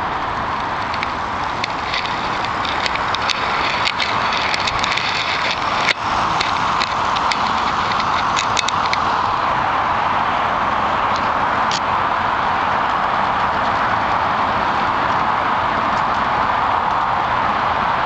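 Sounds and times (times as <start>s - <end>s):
wheels clicking over rail joints: 0.0s - 18.0s.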